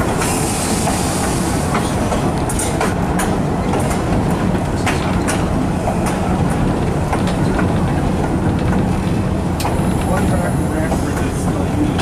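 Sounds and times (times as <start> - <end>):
locomotive engine and wheel rumble: 0.0 - 12.0
wheels clicking on rails: 0.0 - 12.0.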